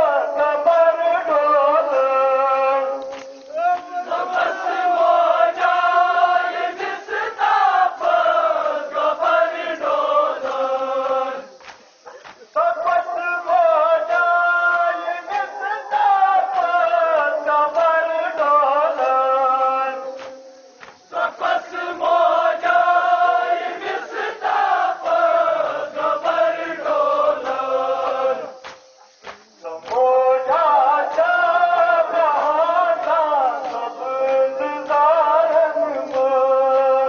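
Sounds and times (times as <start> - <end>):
men chanting mourning elegy: 0.0 - 20.5, 21.1 - 37.0.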